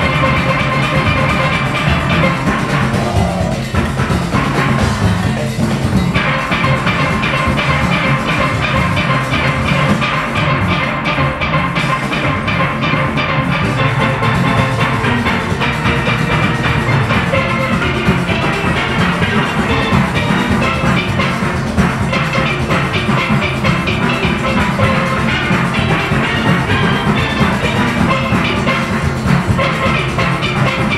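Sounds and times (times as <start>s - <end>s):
drums and percussion: 0.0s - 30.9s
steel band playing: 0.0s - 30.9s.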